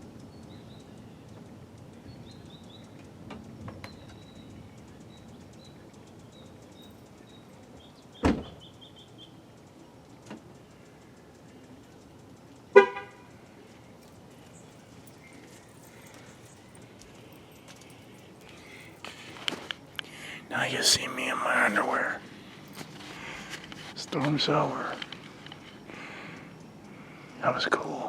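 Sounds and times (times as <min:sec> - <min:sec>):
small birds chirping: 0:00.0 - 0:27.5.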